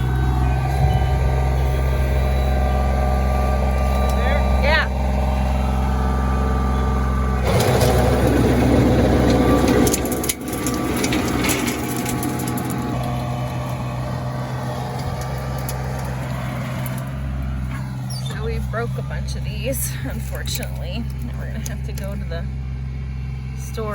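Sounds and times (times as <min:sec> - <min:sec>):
tiller tines churning soil: 0:00.0 - 0:23.9
tractor engine running: 0:00.0 - 0:23.9.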